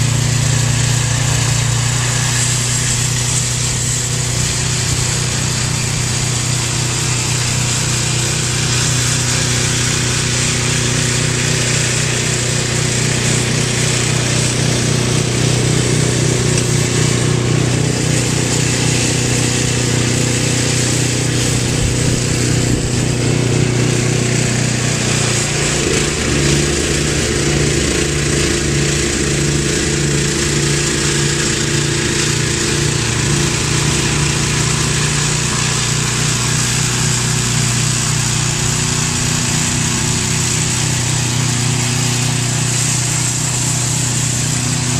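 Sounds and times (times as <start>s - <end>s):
small engine running: 0.0s - 44.9s.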